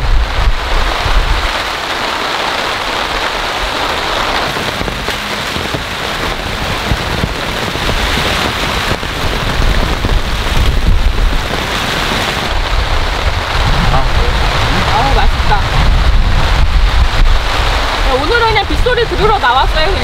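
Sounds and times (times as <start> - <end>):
heavy rain pouring: 0.0 - 20.0
wind rumble on microphone: 0.0 - 20.0.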